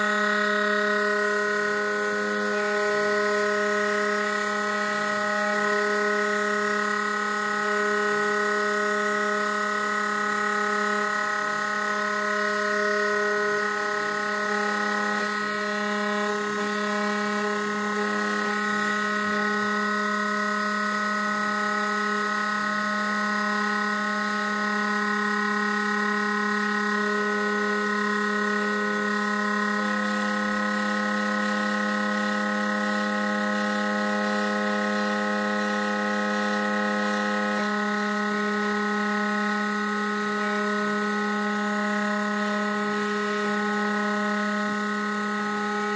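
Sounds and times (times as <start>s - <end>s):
cnc spindle humming: 0.0s - 45.9s.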